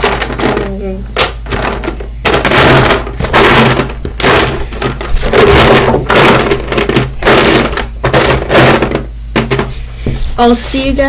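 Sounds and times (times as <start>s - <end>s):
plastic toys clattering in bucket: 0.0s - 0.8s, 1.4s - 9.8s.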